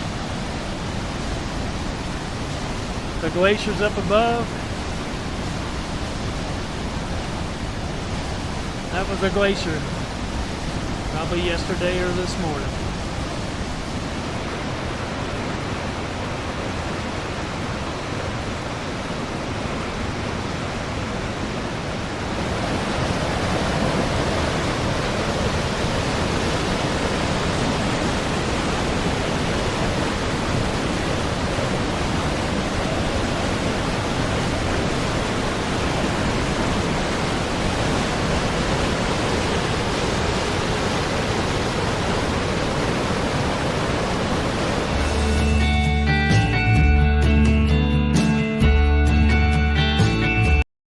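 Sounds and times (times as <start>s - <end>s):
river rushing: 0.0s - 47.0s.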